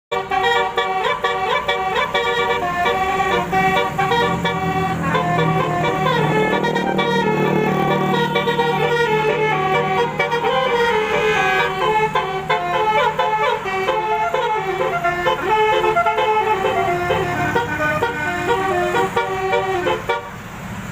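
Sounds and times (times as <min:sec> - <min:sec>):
multi-note vehicle horn tune: 0:00.1 - 0:20.5.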